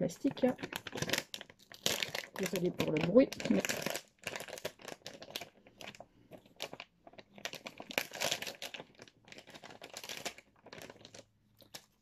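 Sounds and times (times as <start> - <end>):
plastic wrapping crackling: 0.0 - 12.0.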